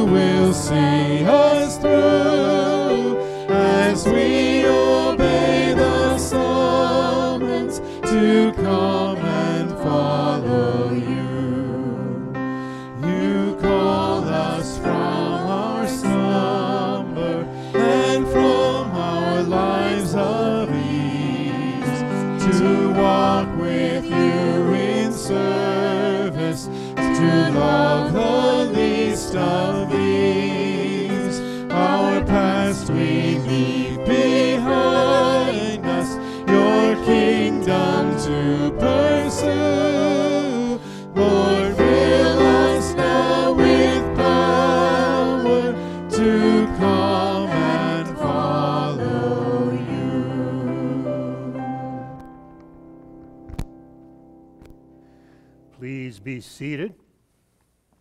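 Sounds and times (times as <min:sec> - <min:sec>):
group singing a hymn: 0:00.0 - 0:52.5
electric keyboard: 0:00.0 - 0:55.9.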